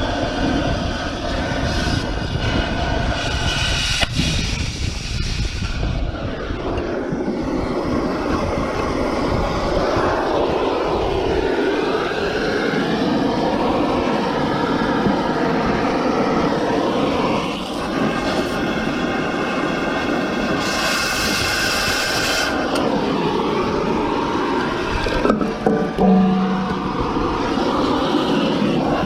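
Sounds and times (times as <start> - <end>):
loud mechanical drone: 0.0 - 29.0.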